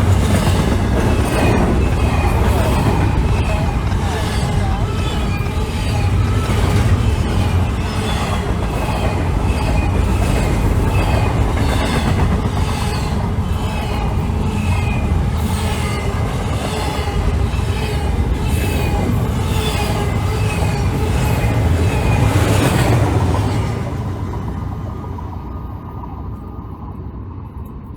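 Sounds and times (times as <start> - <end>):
train wheels clacking on rails: 0.0 - 25.3
train rumble: 0.0 - 27.9
wheel squeal: 0.2 - 23.7.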